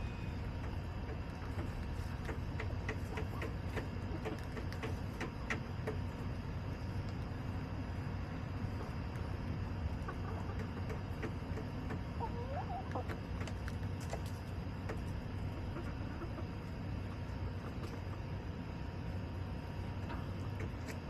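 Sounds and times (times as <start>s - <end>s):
hens clucking: 0.0s - 7.7s, 8.5s - 21.0s
low background hum: 0.0s - 21.0s.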